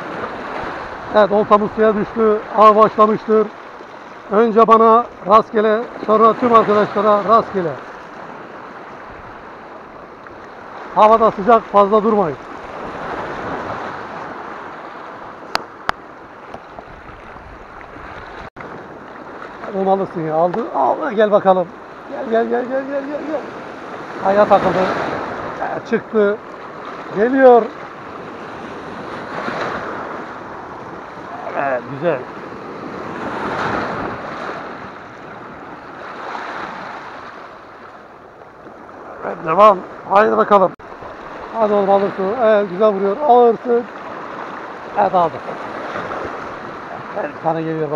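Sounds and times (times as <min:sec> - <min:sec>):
waves splashing over rocks: 0:00.0 - 0:47.9.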